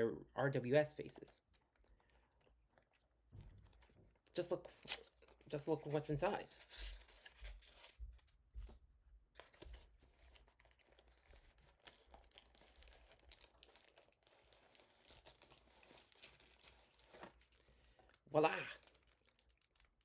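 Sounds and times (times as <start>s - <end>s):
packaging rustling and crinkling: 3.3s - 20.0s.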